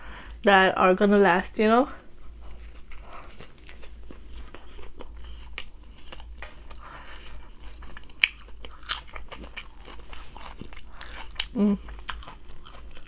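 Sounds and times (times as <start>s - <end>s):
person chewing and crunching: 2.2s - 13.0s.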